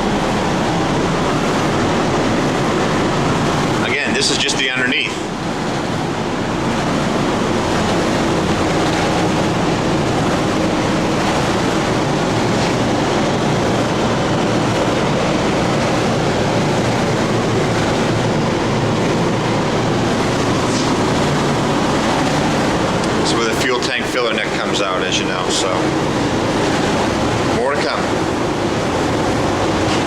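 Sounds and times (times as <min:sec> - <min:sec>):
ventilation fans rushing: 0:00.0 - 0:30.0.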